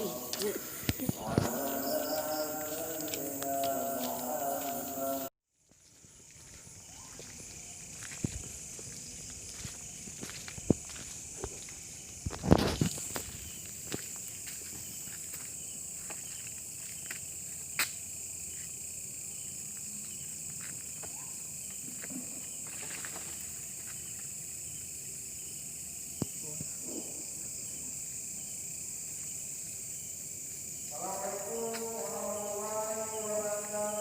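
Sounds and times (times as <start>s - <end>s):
crickets and insects trilling: 0.0s - 34.0s.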